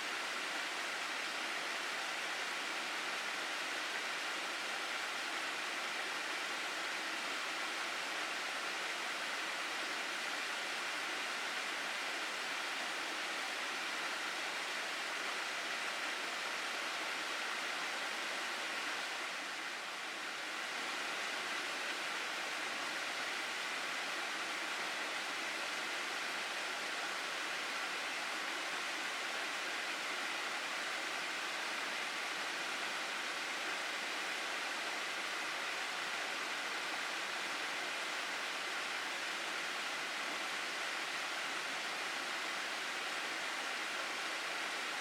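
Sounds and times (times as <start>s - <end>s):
stream rushing over rocks: 0.0s - 45.0s.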